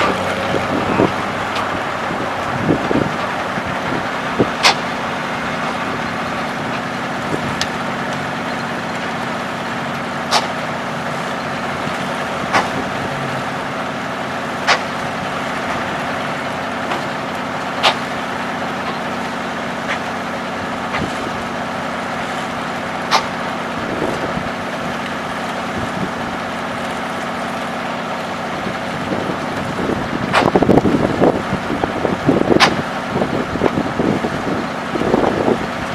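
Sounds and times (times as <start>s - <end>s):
sawmill engine running: 0.0s - 35.9s.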